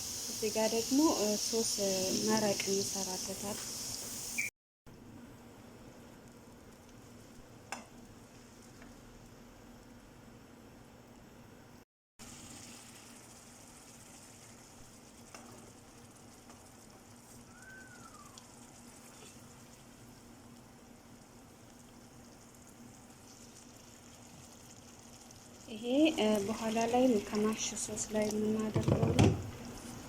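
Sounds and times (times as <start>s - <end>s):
food sizzling in a pan: 0.0s - 4.5s, 6.0s - 10.0s, 12.2s - 30.0s.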